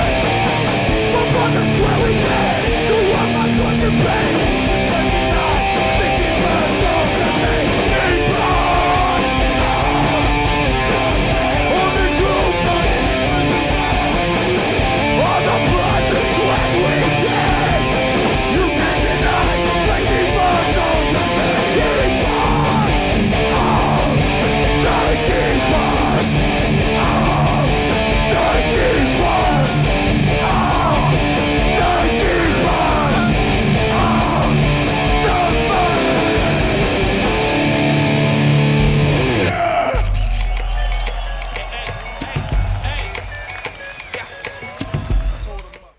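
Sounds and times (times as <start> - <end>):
bass guitar: 0.0 - 39.6
distorted electric guitars: 0.0 - 40.0
drums: 0.0 - 45.9.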